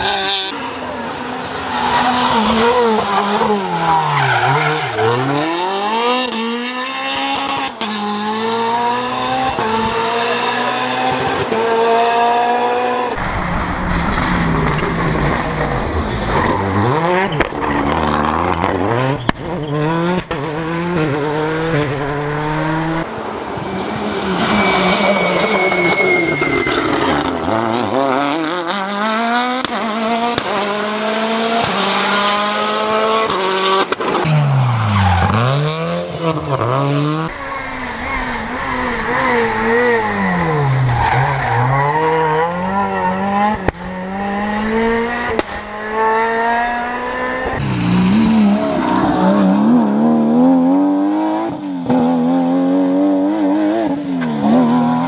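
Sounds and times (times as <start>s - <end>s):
rally car engines at high revs: 0.0s - 55.0s.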